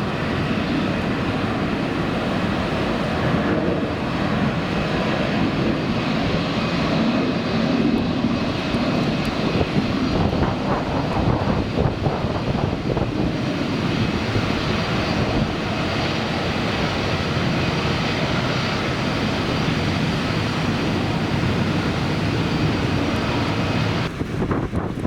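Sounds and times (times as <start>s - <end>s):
airliner engines roaring: 0.0s - 25.0s
wind buffeting microphone: 0.0s - 25.0s.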